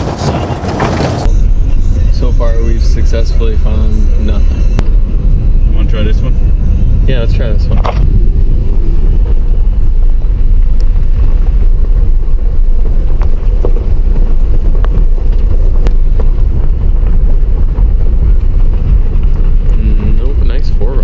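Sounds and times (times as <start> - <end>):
tyres rumbling on gravel: 0.0 - 21.0.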